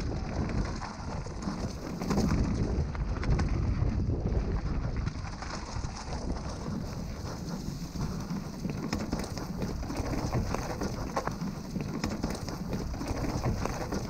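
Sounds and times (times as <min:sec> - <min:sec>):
bike clicking and rattling: 0:00.0 - 0:14.0
tyres crunching over stones: 0:00.0 - 0:14.0.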